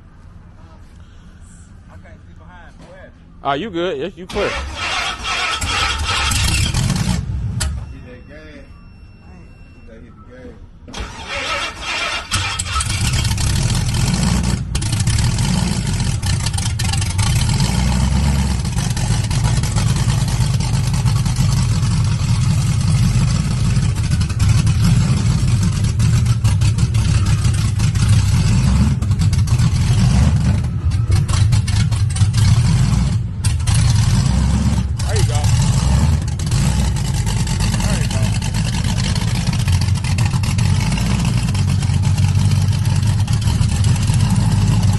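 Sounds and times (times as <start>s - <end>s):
car engine low rumble: 0.0s - 44.9s.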